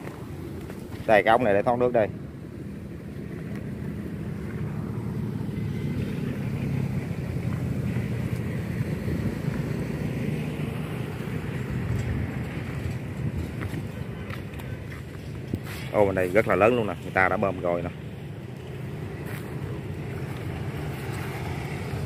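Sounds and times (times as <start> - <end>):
large engine droning: 0.0 - 22.0.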